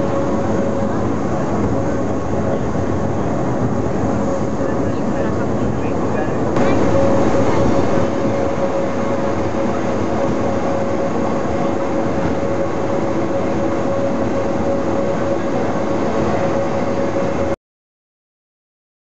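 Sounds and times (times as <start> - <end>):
railcar rumbling ride noise: 0.0 - 17.6
steady whining tone: 0.0 - 17.6.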